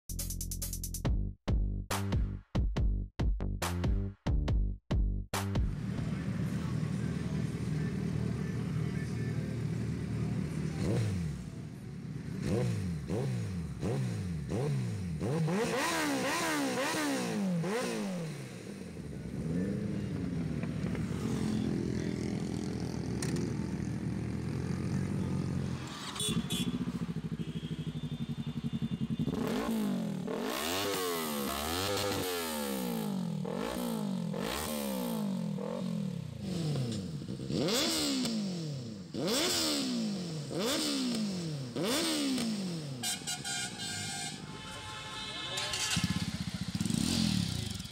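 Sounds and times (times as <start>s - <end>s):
motorcycle engines revving: 5.7s - 47.9s.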